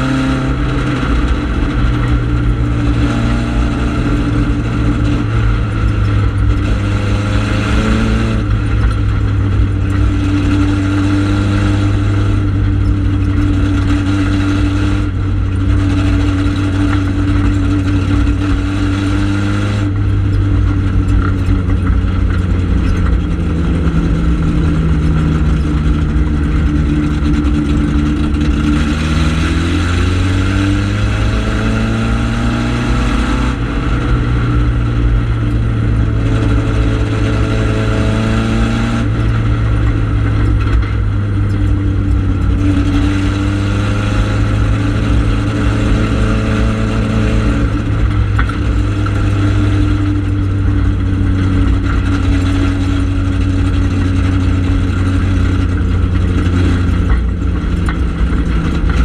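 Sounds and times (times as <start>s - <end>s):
race car engine revving: 0.0s - 59.0s
road and wind noise: 0.0s - 59.0s.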